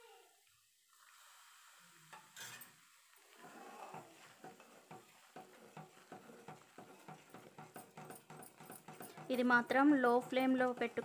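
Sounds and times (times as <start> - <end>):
low sizzle: 0.0 - 11.0
spoon stirring in steel pan: 2.2 - 11.0.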